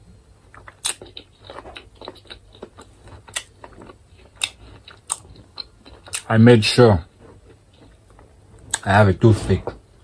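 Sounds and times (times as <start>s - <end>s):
chewing with wet mouth smacks: 0.4s - 8.9s.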